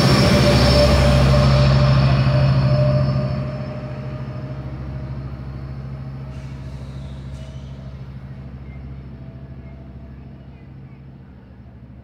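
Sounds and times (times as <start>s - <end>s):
diesel locomotive droning: 0.0s - 12.0s.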